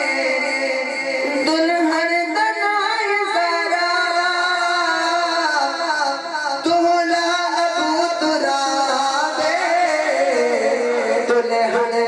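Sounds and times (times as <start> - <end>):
man singing through loudspeakers: 0.0 - 12.0.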